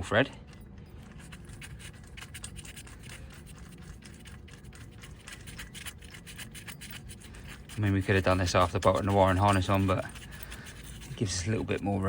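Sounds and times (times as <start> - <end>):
hand tool clicking and scratching: 0.4 - 12.0.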